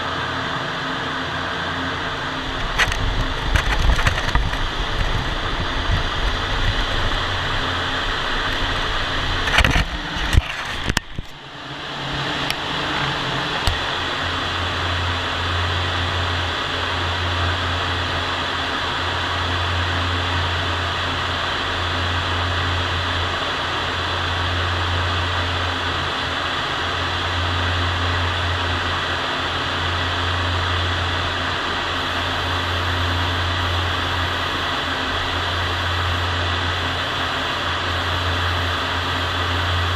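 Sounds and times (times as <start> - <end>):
low hum: 0.0 - 39.9
ventilation fans rushing: 0.0 - 39.9.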